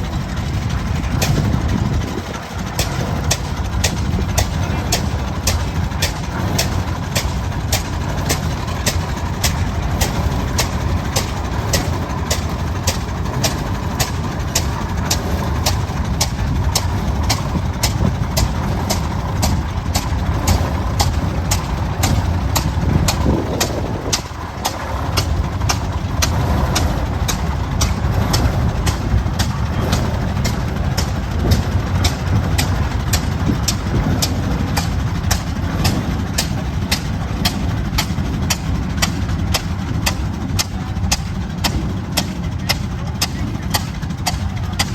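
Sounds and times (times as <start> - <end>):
tractor engine running slowly: 0.0 - 44.9.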